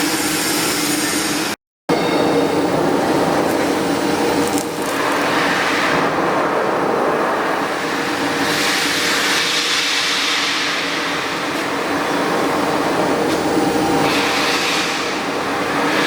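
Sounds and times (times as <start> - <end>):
steady hum: 1.9 - 16.0
welding arc crackling hiss: 2.7 - 16.0.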